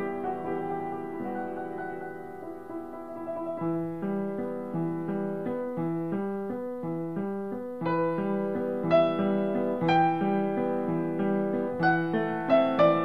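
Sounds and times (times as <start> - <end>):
piano music with held notes: 0.0 - 13.0.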